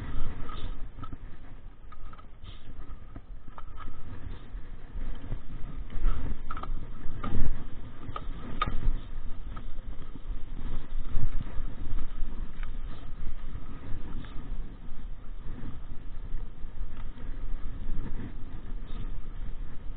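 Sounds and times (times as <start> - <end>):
mountain bike rattling: 0.0 - 19.9
wind on microphone: 0.0 - 19.9.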